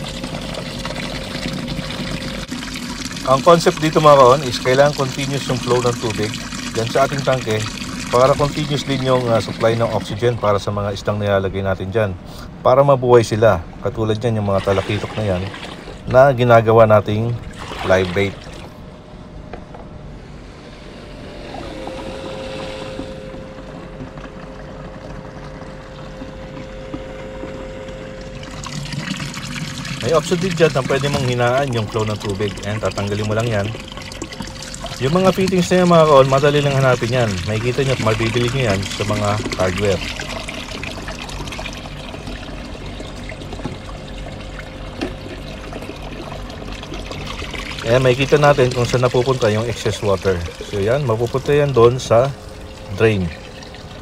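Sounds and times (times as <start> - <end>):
water pouring and splashing into tank: 0.0 - 10.6, 14.4 - 16.2, 17.4 - 18.8, 21.5 - 54.0
aerator pump humming: 0.0 - 54.0.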